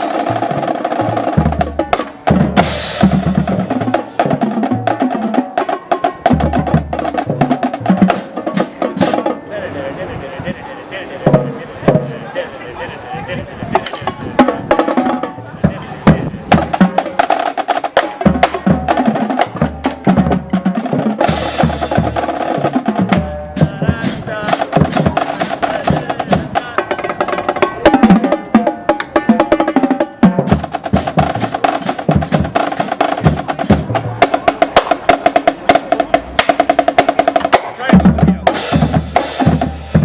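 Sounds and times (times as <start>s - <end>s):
rapid drums and percussion: 0.0s - 40.0s.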